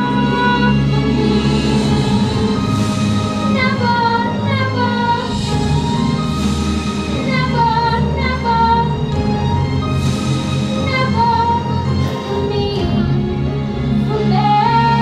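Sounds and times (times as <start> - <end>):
orchestral accompaniment: 0.0 - 15.0.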